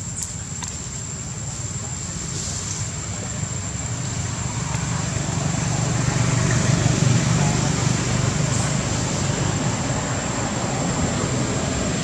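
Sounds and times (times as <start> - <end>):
vehicle engine rumbling: 1.3 - 12.0.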